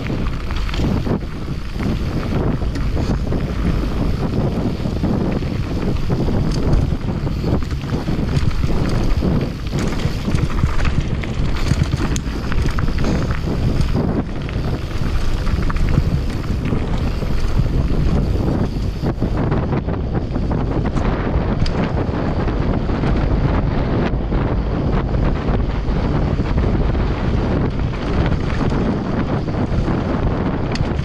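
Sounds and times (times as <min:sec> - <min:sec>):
tyres rolling over dirt and rock: 0:00.0 - 0:24.0, 0:24.8 - 0:31.0
bike clicks and rattles: 0:00.0 - 0:31.0
wind buffeting microphone: 0:00.0 - 0:31.0.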